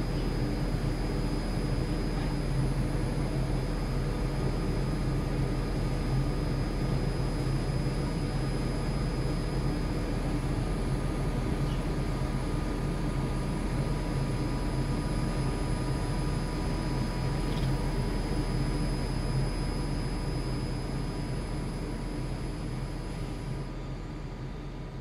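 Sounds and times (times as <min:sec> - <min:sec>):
constant hums: 0:00.0 - 0:25.0.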